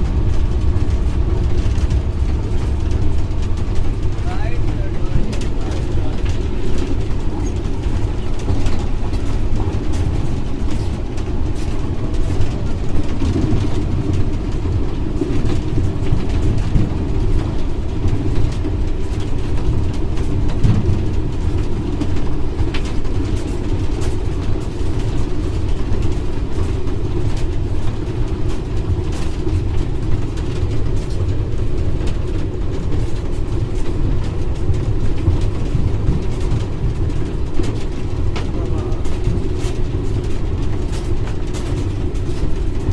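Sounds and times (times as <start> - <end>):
locomotive engine and rail rumble: 0.0 - 42.9.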